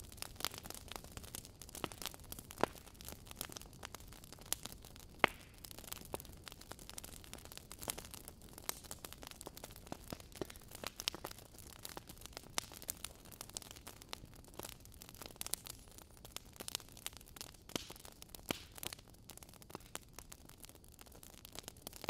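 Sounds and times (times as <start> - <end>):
logs crackling in fireplace: 0.0 - 22.0.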